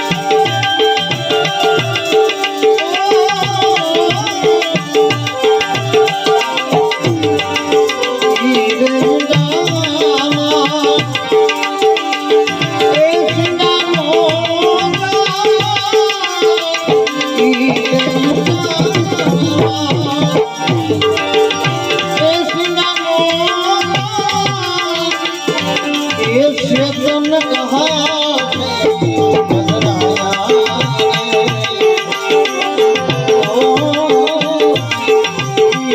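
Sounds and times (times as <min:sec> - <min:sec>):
sustained melodic instrument: 0:00.0 - 0:35.9
tabla steady rhythm: 0:00.0 - 0:35.9.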